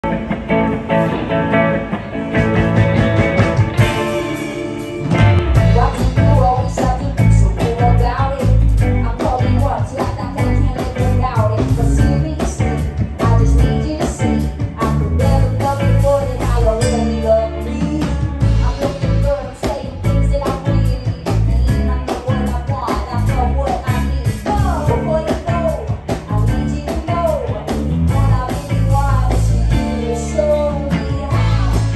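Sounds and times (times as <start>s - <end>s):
drum kit: 0.0s - 31.9s
electric bass: 0.0s - 31.9s
electric guitars: 0.0s - 31.9s
woman singing: 3.8s - 31.9s.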